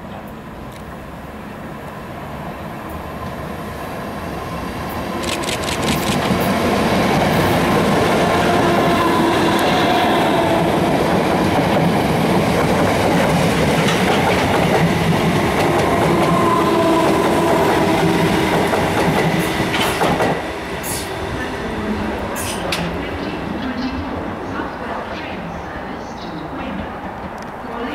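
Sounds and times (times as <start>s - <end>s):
electric train running past: 0.0s - 27.9s.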